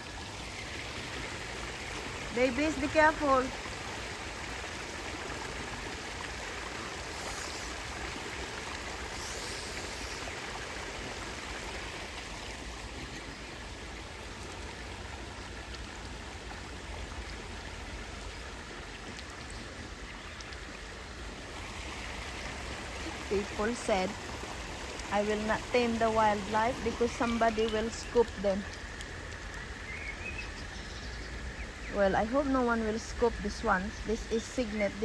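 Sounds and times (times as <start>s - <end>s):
brook water running: 0.0s - 35.0s.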